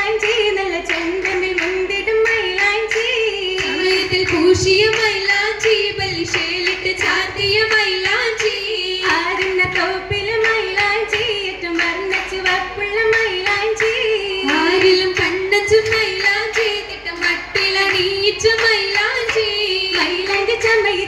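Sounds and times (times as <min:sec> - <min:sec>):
rhythmic group handclapping: 0:00.0 - 0:21.0
women singing in chorus: 0:00.0 - 0:21.0.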